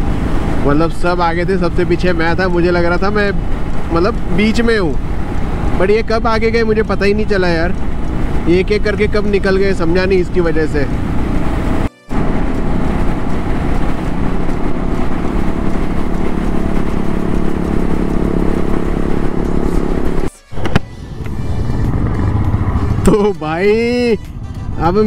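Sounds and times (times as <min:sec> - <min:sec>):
motorcycles rumbling slowly on dirt: 0:00.0 - 0:20.3, 0:21.0 - 0:25.0
motorcycle engine cruising: 0:00.0 - 0:25.0
wind and road noise: 0:00.0 - 0:25.0.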